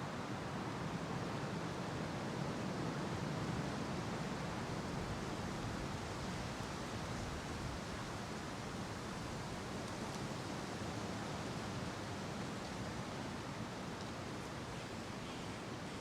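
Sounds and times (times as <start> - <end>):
wind through trees: 0.0 - 16.0.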